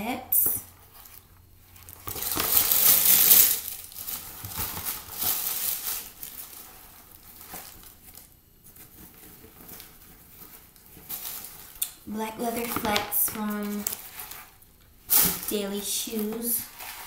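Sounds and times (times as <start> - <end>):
tissue paper crinkling: 0.9 - 11.8, 12.4 - 17.0.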